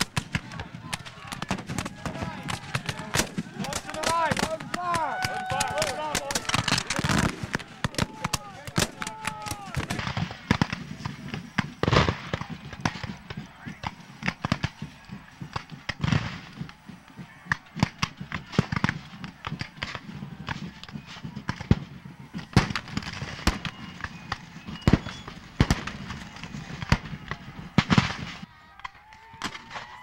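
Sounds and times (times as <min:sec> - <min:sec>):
musket fire pops: 0:00.0 - 0:30.0.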